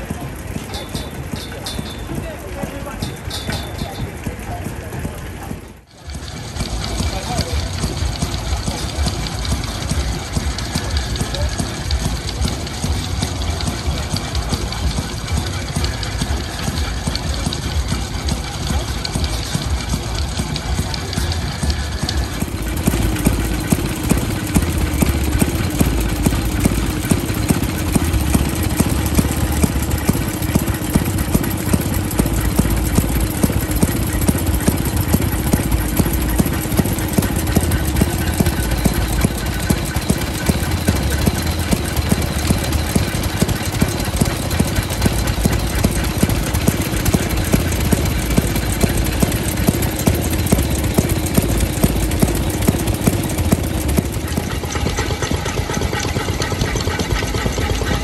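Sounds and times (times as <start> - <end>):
two-stroke engine running: 0.0 - 58.0.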